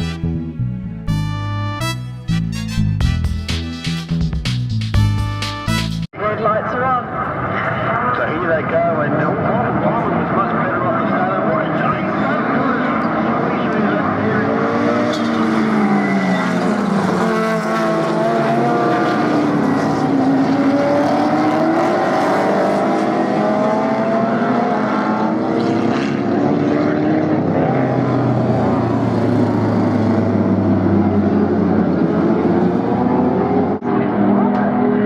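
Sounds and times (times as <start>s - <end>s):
race car engines revving: 6.2s - 35.0s.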